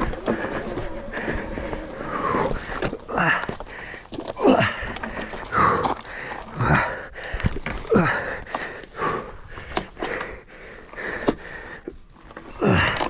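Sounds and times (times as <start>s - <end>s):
person panting hard: 0.0s - 12.0s.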